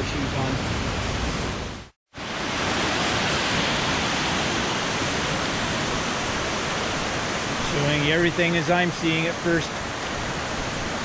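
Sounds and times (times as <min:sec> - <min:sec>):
creek and waterfall rushing: 0:02.1 - 0:11.0.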